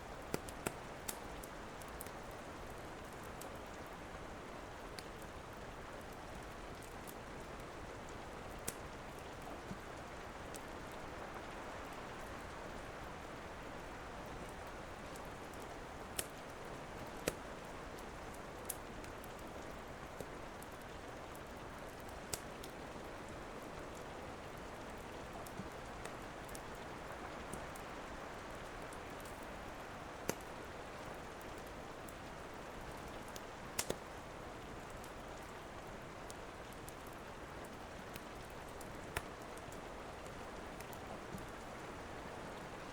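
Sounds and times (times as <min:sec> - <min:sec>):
wood fire crackling: 0:00.0 - 0:42.8
steady rain falling: 0:00.0 - 0:42.9.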